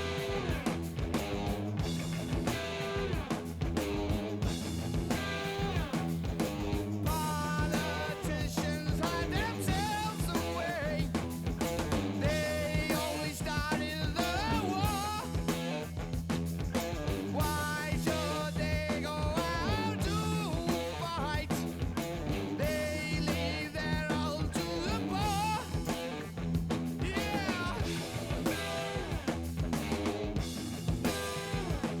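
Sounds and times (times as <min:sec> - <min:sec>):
rock song with singing: 0:00.0 - 0:32.0.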